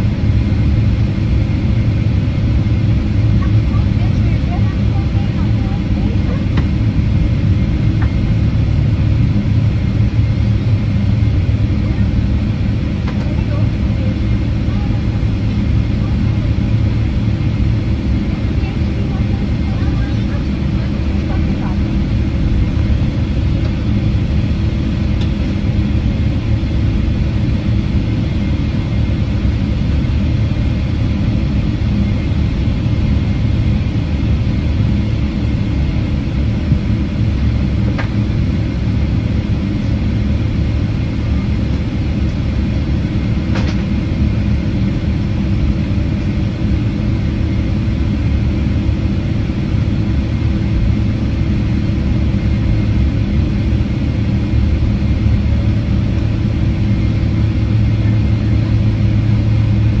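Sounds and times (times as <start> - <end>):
aircraft cabin engine hum: 0.0 - 60.0.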